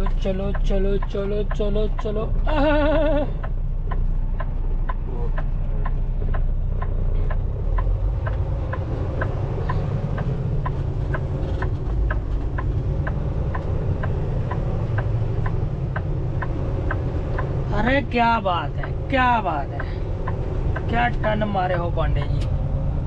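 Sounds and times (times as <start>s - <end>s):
truck engine and road rumble: 0.0s - 23.0s
turn signal ticking: 0.0s - 23.0s.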